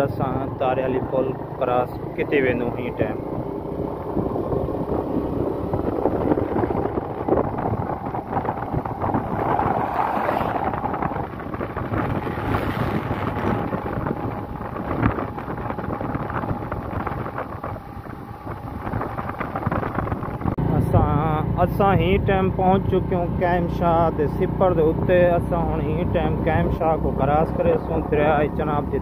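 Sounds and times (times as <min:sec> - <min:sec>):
vehicle engine running: 0:00.0 - 0:29.0
wind rushing over microphone: 0:00.0 - 0:29.0.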